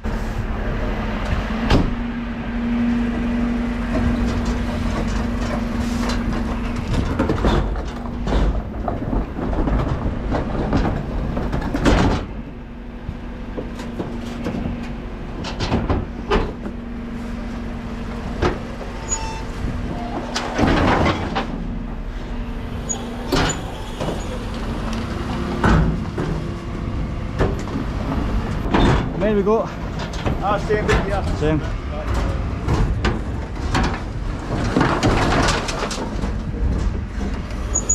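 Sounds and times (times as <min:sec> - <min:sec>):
truck engine humming: 0:00.0 - 0:37.9.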